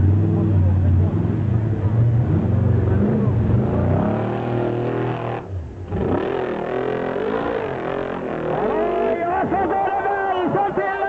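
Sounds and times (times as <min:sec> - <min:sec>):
off-road car engine revving: 0:00.0 - 0:09.4.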